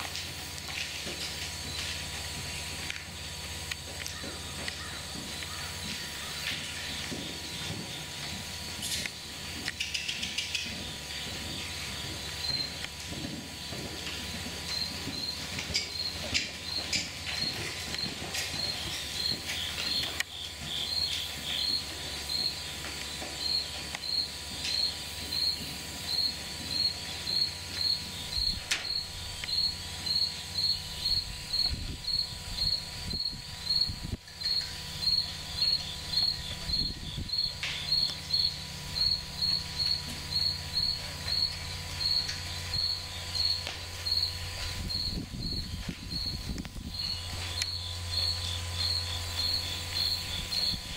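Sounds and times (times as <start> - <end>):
insect chirping: 1.2 - 50.9.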